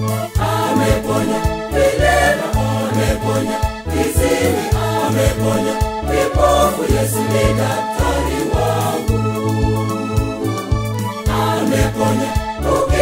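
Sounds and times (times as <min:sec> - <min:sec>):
band with pulsing bass line: 0:00.0 - 0:13.0
choir singing: 0:00.3 - 0:10.0, 0:11.2 - 0:13.0.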